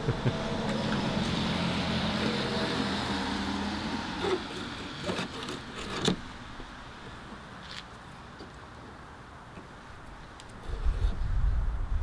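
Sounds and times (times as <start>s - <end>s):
vehicle engine humming: 0.0s - 10.4s.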